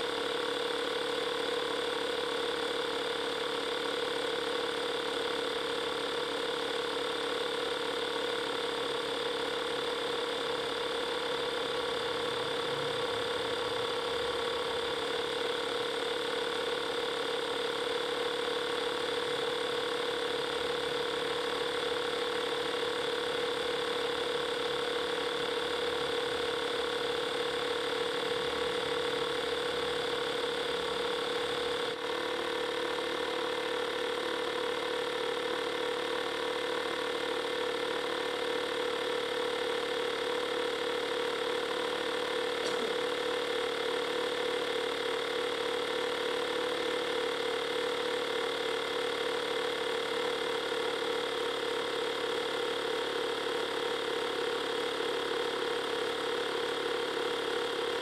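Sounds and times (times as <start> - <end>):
tire inflator humming: 0.0 - 58.0.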